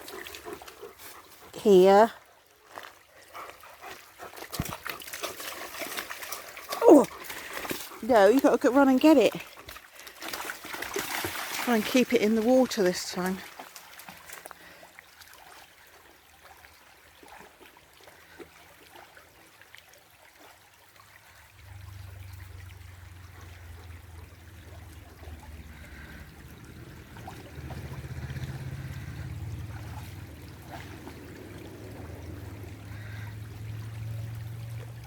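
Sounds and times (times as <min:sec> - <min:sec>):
river water trickling: 0:00.0 - 0:35.0.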